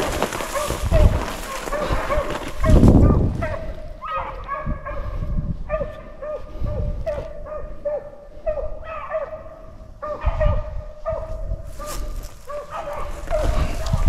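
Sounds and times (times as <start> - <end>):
hounds baying and yelping: 0.0 - 14.0.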